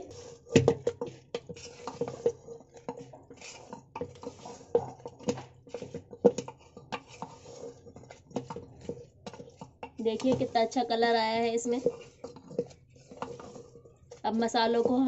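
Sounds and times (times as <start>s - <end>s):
spatula stirring in metal pot: 0.0s - 15.0s.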